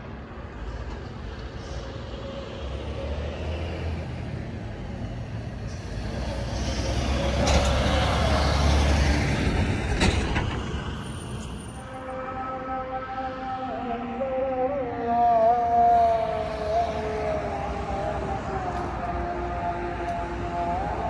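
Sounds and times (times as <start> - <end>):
road vehicle passing: 0.0 - 21.0.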